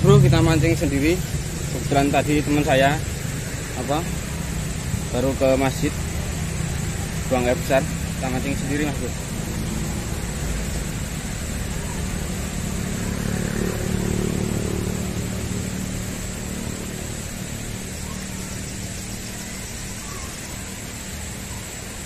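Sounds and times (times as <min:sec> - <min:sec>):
vehicle engine passing: 0:00.0 - 0:21.5.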